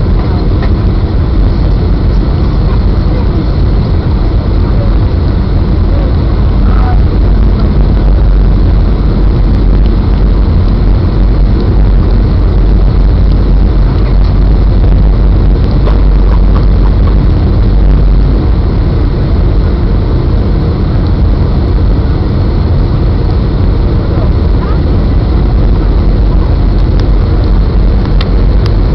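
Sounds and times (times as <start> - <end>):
aircraft cabin engine and airflow roar: 0.0 - 28.9.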